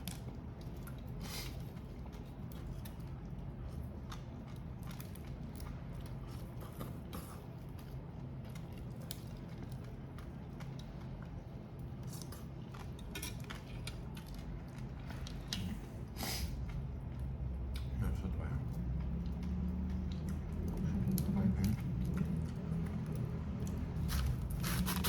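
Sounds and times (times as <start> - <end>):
person chewing: 0.0 - 18.0, 18.6 - 25.0
steady low hum: 0.0 - 25.0.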